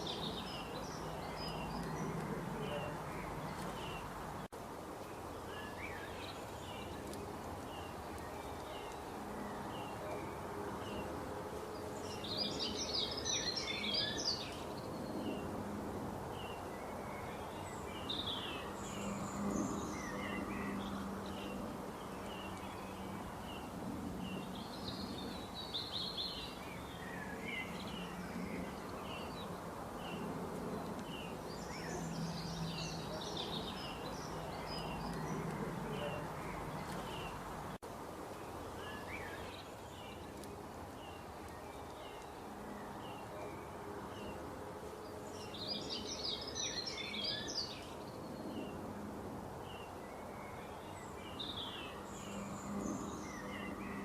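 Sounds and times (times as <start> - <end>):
birds singing: 0.0 - 4.5, 5.1 - 15.6, 16.3 - 37.8, 38.4 - 44.4, 45.0 - 48.8, 49.6 - 54.0.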